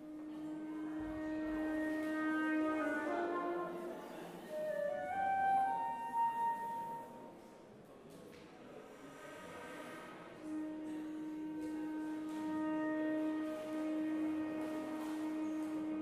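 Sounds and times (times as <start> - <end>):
flute and cello chamber music: 0.0 - 7.4, 10.4 - 16.0.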